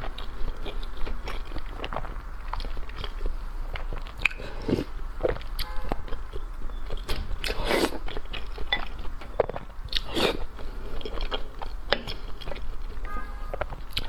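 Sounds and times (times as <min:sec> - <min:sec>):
crunchy bites and chewing: 0:00.0 - 0:14.0.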